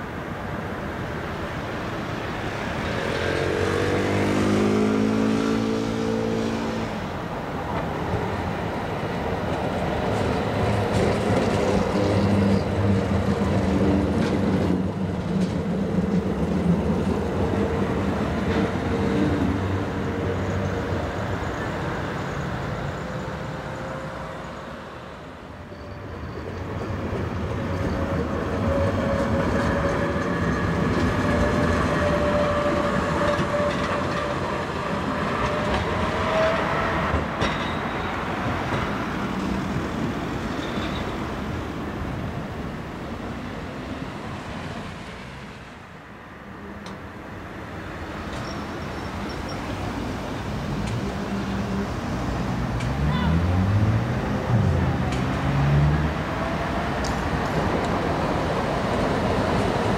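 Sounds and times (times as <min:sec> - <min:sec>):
tram passing on rails: 0:00.0 - 0:59.9.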